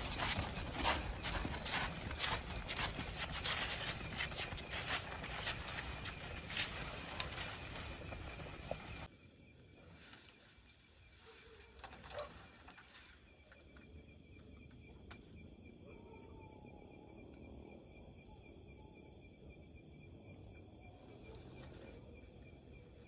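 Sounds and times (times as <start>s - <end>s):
crickets and insects trilling: 0.0s - 23.0s.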